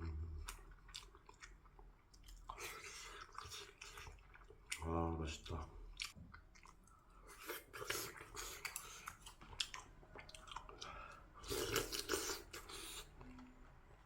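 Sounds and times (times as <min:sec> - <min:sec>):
person chewing with wet smacking: 0:00.0 - 0:14.0.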